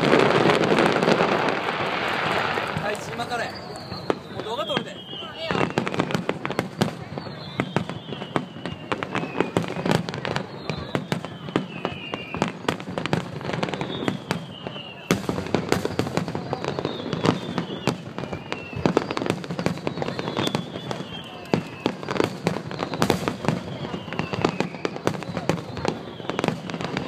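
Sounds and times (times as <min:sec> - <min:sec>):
fireworks cracking and popping: 0:00.0 - 0:27.0.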